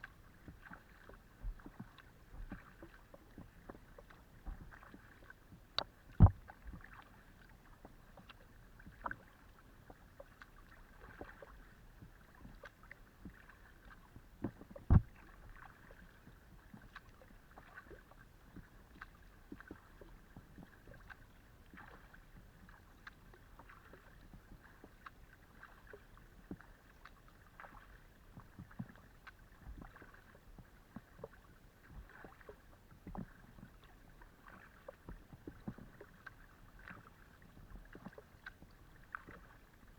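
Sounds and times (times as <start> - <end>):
paddle splashing water: 0.0 - 39.9.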